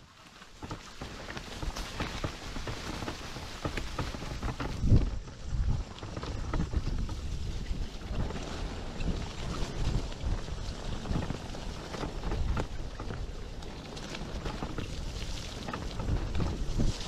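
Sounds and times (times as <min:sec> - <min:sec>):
tyres rolling over dirt trail: 0:00.0 - 0:17.0
wind buffeting microphone: 0:00.5 - 0:17.0.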